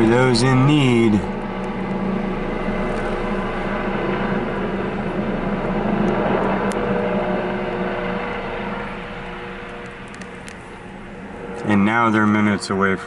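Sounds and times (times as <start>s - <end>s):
helicopter flying: 0.0s - 13.0s.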